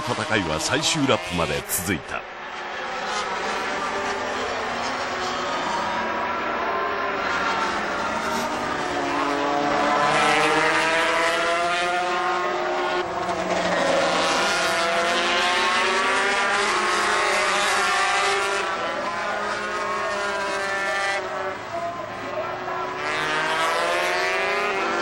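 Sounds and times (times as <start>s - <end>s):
racing motorcycle engines: 0.0s - 25.0s.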